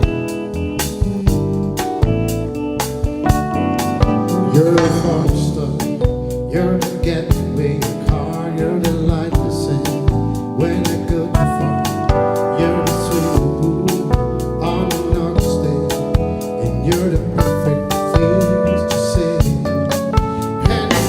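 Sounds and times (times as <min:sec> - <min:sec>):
pop music with drums: 0:00.0 - 0:21.0
wavering lead melody: 0:00.0 - 0:21.0.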